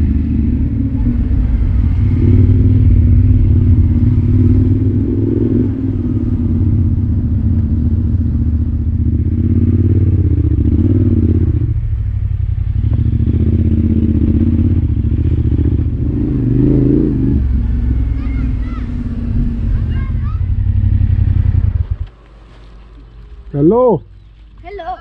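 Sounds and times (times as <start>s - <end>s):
motorcycle engine revving: 0.0s - 24.6s.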